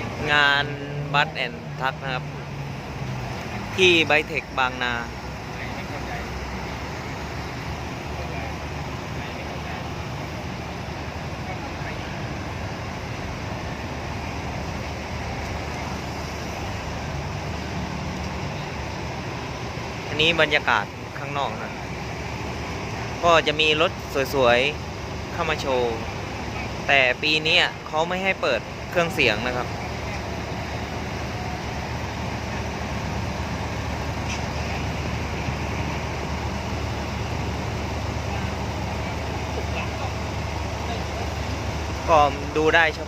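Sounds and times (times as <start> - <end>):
low engine rumble: 0.0 - 43.0
outdoor noise: 0.0 - 43.0.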